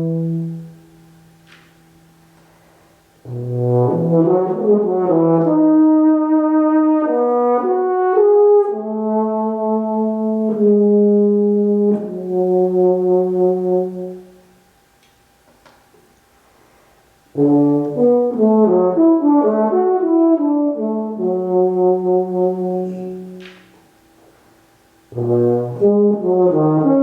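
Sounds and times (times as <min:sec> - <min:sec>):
solo brass melody: 0:00.0 - 0:14.9, 0:17.2 - 0:27.0.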